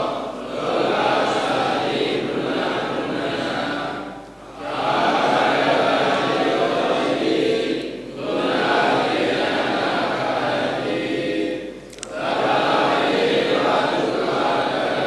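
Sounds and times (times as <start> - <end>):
group chanting in unison: 0.0 - 15.0.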